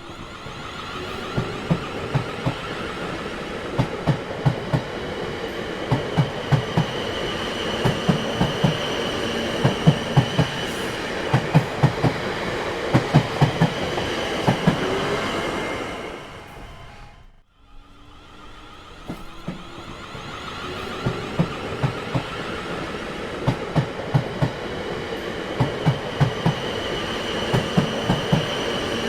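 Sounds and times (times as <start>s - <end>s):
train wheels clattering: 1.0s - 17.0s, 19.0s - 29.0s.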